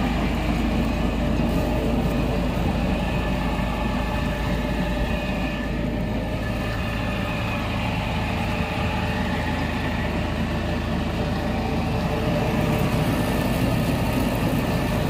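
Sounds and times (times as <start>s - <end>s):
baler mechanical hum: 0.0s - 15.0s.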